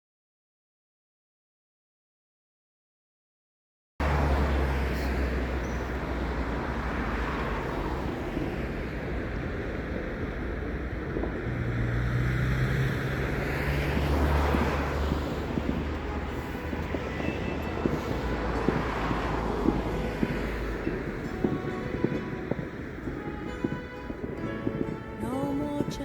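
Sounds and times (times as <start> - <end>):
wind buffeting microphone: 4.0 - 26.0.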